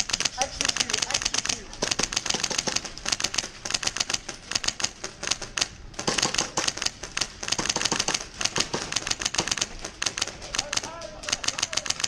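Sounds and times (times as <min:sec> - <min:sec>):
airsoft guns firing: 0:00.0 - 0:12.0.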